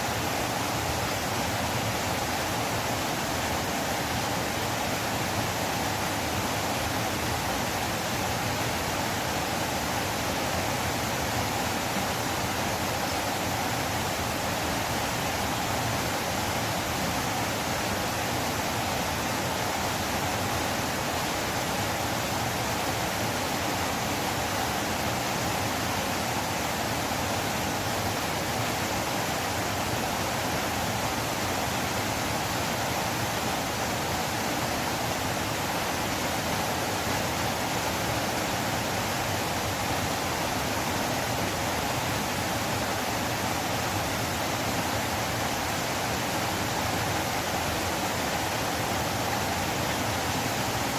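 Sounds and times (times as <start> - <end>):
river water flowing: 0.0 - 50.9.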